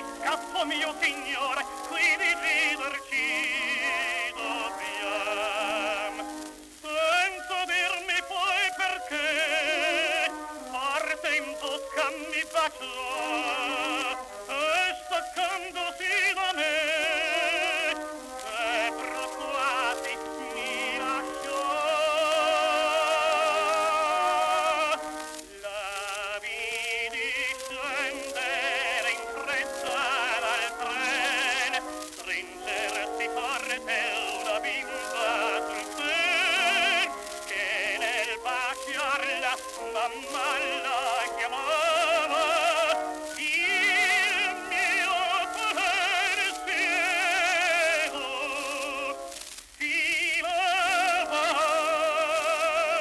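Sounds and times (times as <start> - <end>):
record surface hiss and crackle: 0.0 - 53.0
tenor singing with orchestra: 0.0 - 53.0.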